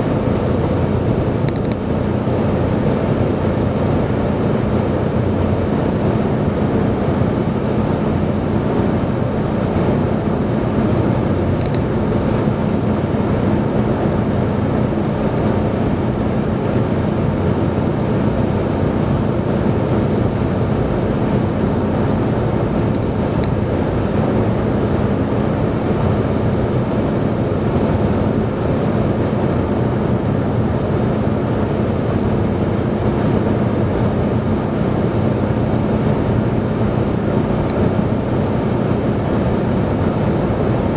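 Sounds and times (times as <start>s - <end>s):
car road noise inside cabin: 0.0s - 40.9s.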